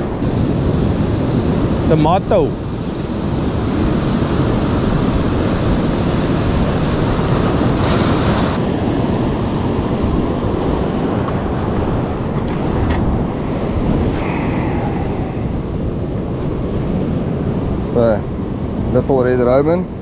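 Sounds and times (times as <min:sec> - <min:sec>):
surf washing on rocky shore: 0:00.0 - 0:20.0
wind buffeting microphone: 0:00.0 - 0:20.0.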